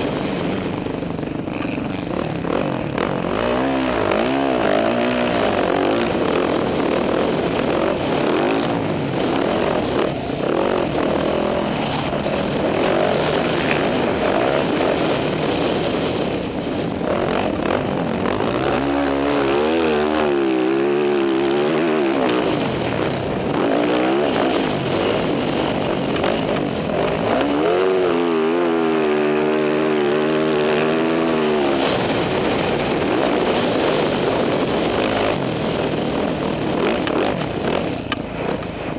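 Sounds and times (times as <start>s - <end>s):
dirt bike engine revving: 0.0s - 38.9s
loud rushing noise: 0.0s - 38.9s.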